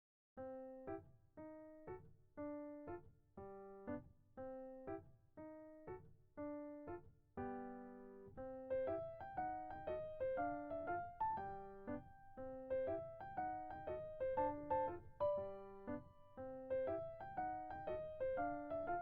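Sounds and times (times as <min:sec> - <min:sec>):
light comic piano music: 0:00.4 - 0:19.0.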